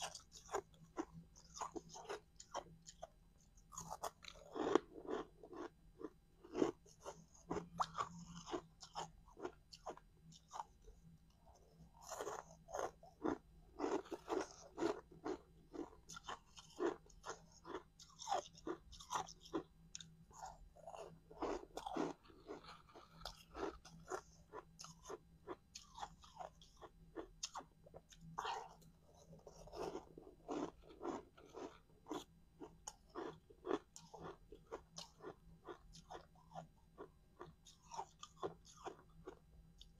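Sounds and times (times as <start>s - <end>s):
crunching ice being chewed: 0.0s - 39.9s.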